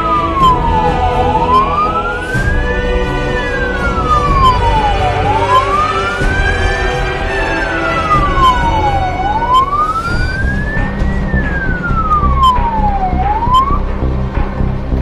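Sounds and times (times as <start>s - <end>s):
fire truck siren wailing: 0.0s - 13.9s
truck engine and road rumble: 0.0s - 15.0s.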